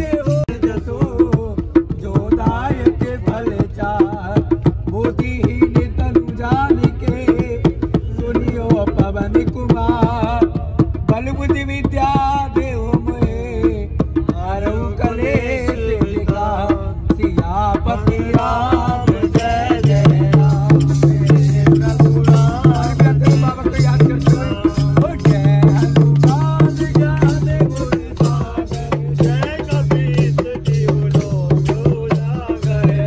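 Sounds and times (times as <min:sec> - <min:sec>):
dholak drum played by hand: 0:00.0 - 0:33.0
lively singing: 0:00.0 - 0:33.0.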